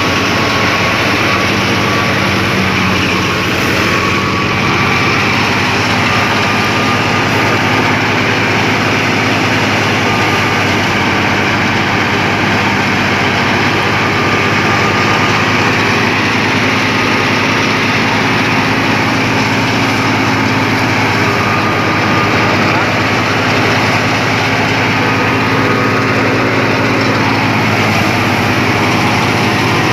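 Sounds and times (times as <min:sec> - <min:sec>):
low engine hum: 0:00.0 - 0:29.9
thresher mechanical din: 0:00.0 - 0:29.9.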